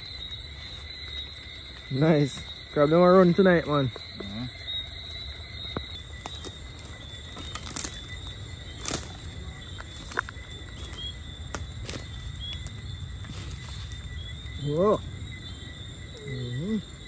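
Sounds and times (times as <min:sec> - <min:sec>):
night insects trilling: 0:00.0 - 0:17.0.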